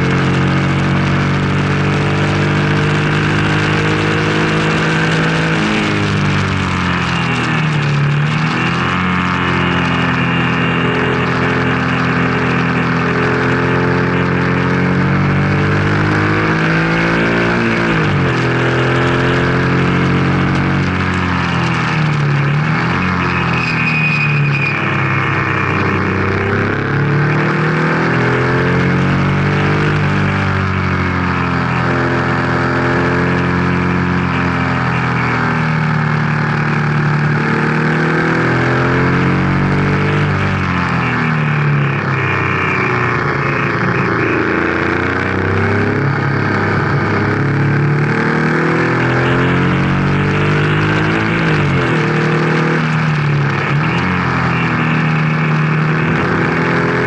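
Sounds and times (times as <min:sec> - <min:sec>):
racing car engine at low revs: 0:00.0 - 0:57.0.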